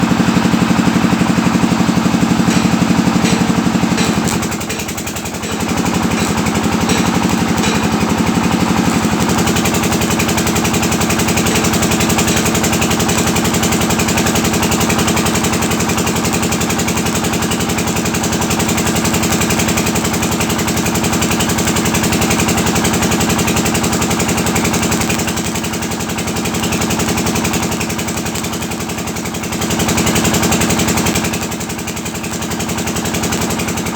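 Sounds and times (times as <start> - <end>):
arc welding buzz and crackle: 0.8 - 33.9.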